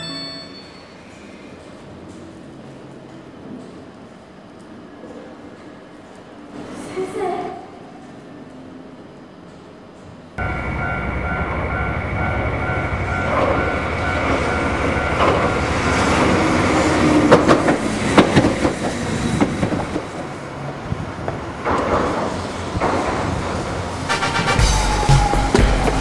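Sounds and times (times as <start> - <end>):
streetcar running on track: 0.0 - 26.0.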